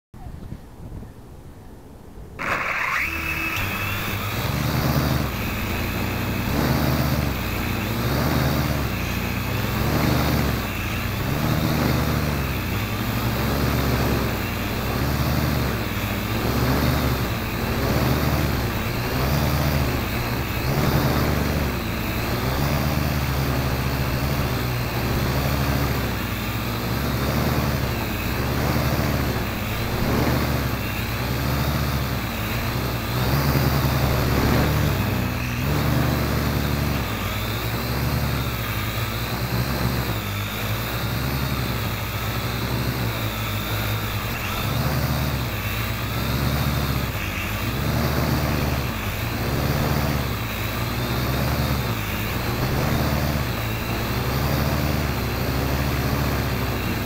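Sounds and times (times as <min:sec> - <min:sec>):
drone propellers whirring: 0:02.4 - 0:57.0.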